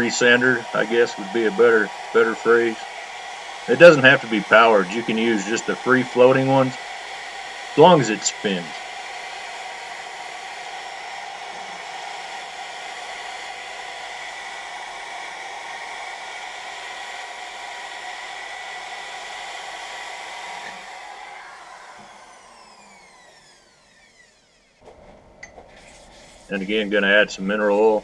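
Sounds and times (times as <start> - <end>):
lathe and rotary sander whirring: 0.0 - 28.0.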